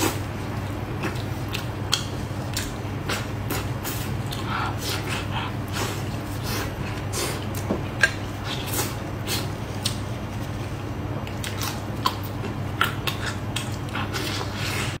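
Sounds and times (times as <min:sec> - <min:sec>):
chewing with wet smacks: 0:00.0 - 0:10.2, 0:11.2 - 0:14.9
low steady hum: 0:00.0 - 0:15.0.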